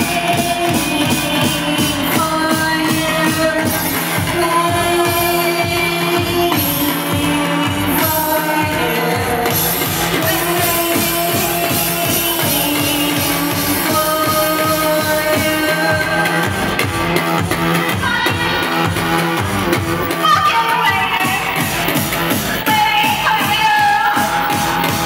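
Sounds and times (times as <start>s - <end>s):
woman singing: 0.0s - 16.9s, 17.9s - 19.0s, 20.1s - 25.0s.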